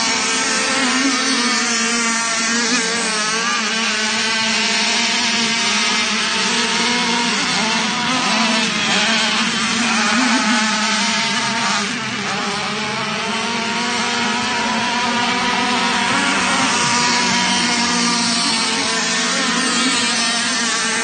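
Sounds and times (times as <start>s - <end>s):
model boat motors buzzing: 0.0s - 21.0s.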